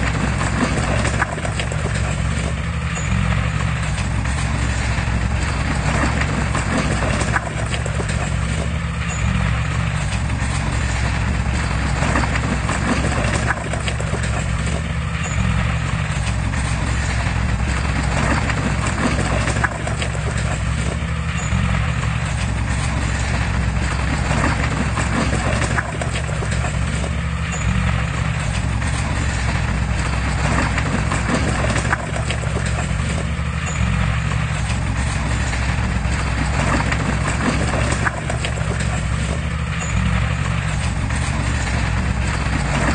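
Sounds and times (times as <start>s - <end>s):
clanking clatter: 0.0s - 42.9s
heavy diesel machinery engine: 0.0s - 42.9s.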